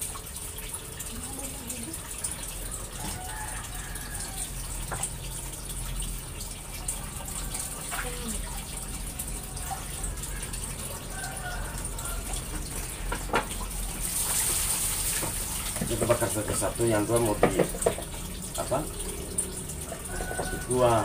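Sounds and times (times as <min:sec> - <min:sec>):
running water hiss: 0:00.0 - 0:21.0.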